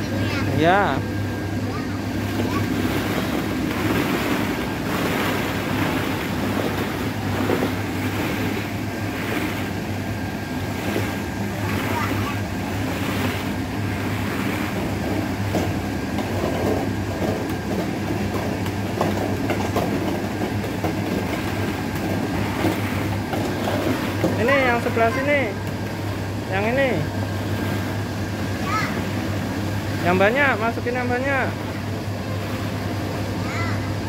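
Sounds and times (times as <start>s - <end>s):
air blower humming: 0.0s - 34.0s.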